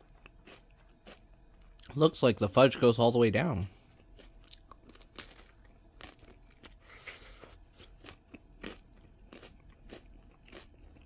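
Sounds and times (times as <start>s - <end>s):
faint chewing with crunches: 0.0s - 2.0s, 3.7s - 11.0s.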